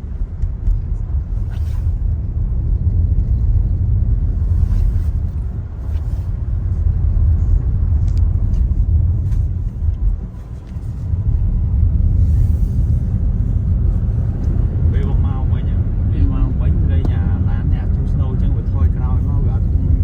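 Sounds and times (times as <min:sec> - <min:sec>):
car driving rumble from inside: 0:00.0 - 0:20.0.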